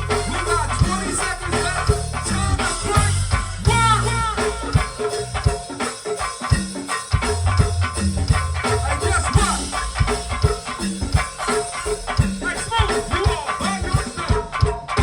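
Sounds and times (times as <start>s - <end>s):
bass line: 0.0s - 5.6s, 7.2s - 14.6s
drum and percussion rhythm: 0.0s - 15.0s
gospel band playing: 0.0s - 15.0s.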